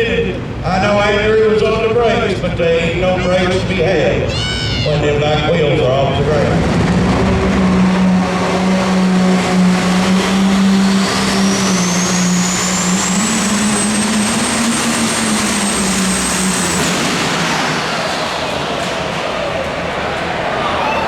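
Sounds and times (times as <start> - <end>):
engine running hard under load: 0.0 - 20.8.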